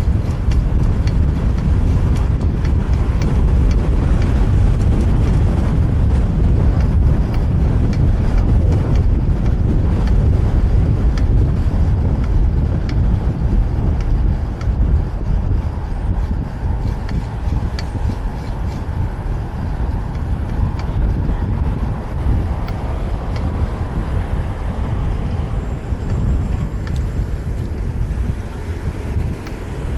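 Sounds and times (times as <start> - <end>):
passing street traffic: 0.0 - 29.9
wind rushing over microphone: 0.0 - 29.9.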